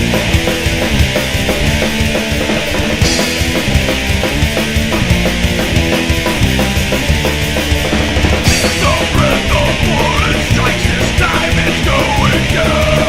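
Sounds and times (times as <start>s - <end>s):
guitar lead with bending notes: 0.0s - 13.0s
heavy distorted rock music: 0.0s - 13.0s.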